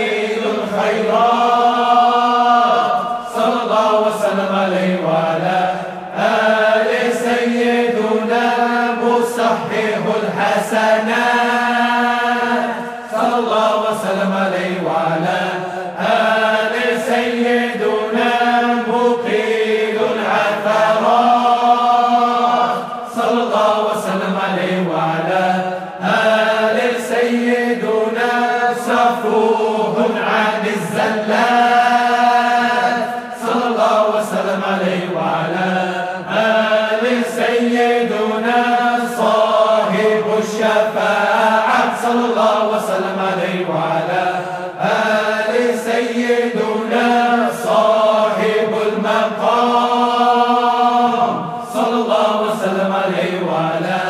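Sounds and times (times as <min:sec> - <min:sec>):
voices chanting melodically: 0:00.0 - 0:54.0.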